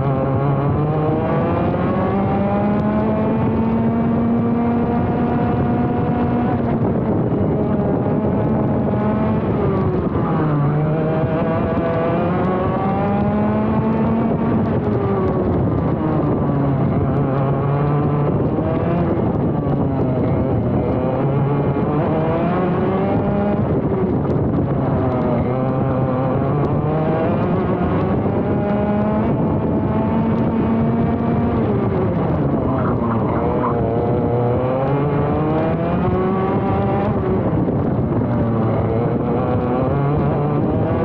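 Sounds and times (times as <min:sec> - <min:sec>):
kart engine revving: 0:00.0 - 0:41.0.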